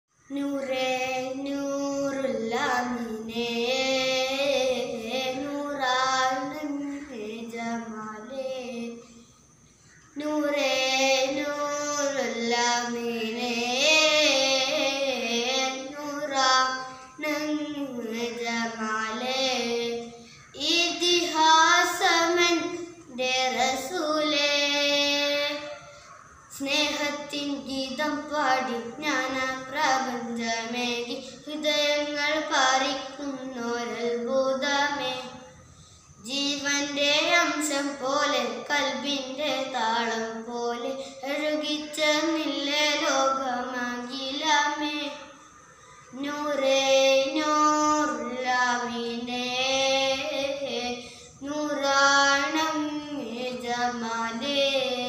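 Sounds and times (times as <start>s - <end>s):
boy singing unaccompanied: 0.2s - 35.6s, 36.2s - 45.4s, 46.1s - 55.0s.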